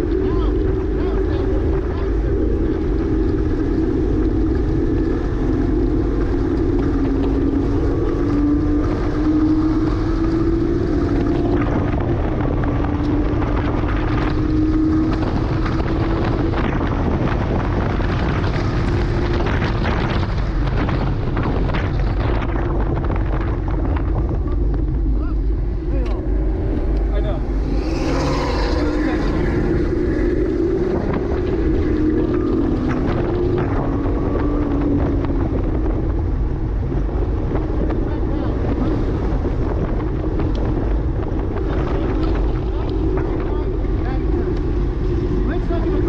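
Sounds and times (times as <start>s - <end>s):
car engine under load: 0.0s - 46.0s
road and wind noise: 0.0s - 46.0s.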